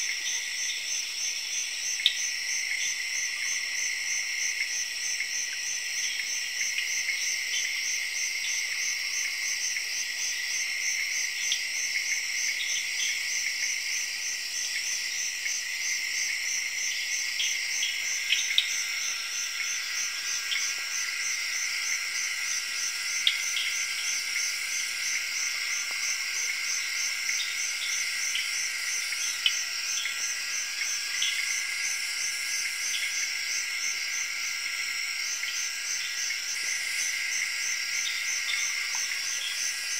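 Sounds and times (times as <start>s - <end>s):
high insect trills: 0.0s - 39.9s
insect chirps: 0.0s - 39.9s
lower insect trill: 0.0s - 39.9s.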